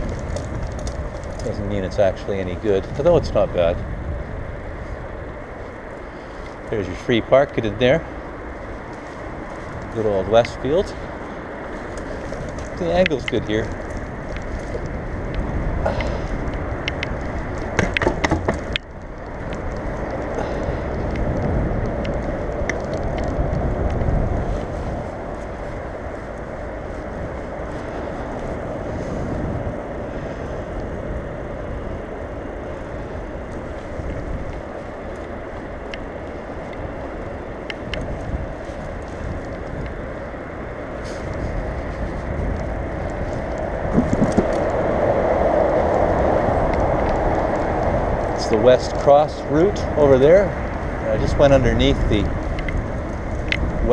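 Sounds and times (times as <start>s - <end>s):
bicycle clicks and knocks: 0.0s - 3.0s, 8.2s - 45.1s, 50.6s - 53.9s
bicycle tyre and road noise: 0.0s - 53.9s.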